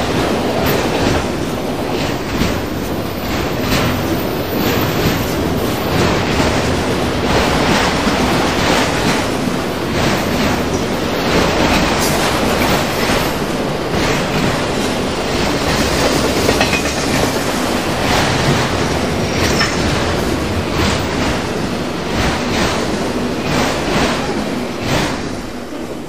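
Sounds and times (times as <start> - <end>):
wheels clacking over rail joints: 0.0 - 25.7
steel wheels rumbling on rail: 0.0 - 26.0.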